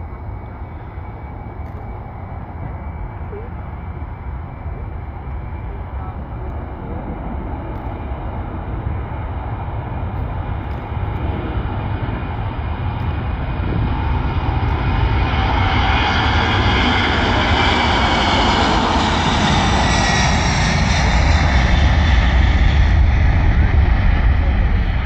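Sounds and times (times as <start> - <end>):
jet engines at take-off thrust: 0.0 - 25.0.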